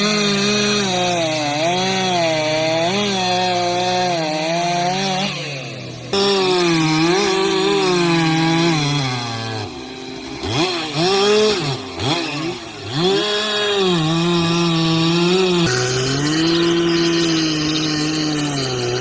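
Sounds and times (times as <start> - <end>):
chainsaw engine at high revs: 0.0 - 19.0.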